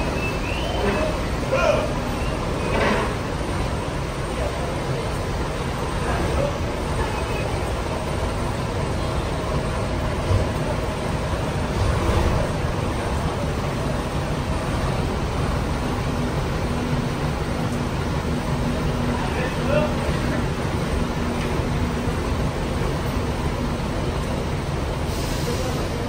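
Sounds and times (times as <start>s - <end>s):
bus diesel engine rumbling: 0.0s - 26.0s.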